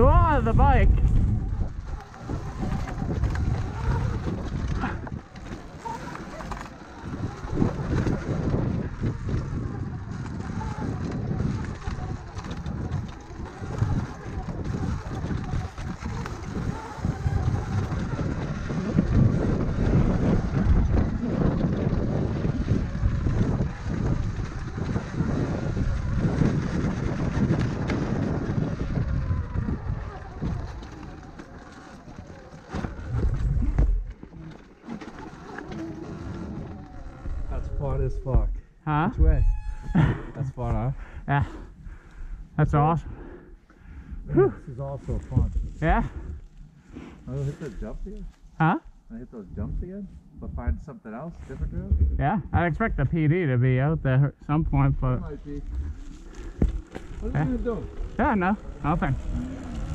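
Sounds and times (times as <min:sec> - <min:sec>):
electric dirt bike rumble: 0:00.0 - 0:51.0, 0:51.6 - 0:59.9
wind buffeting microphone: 0:00.0 - 0:59.9.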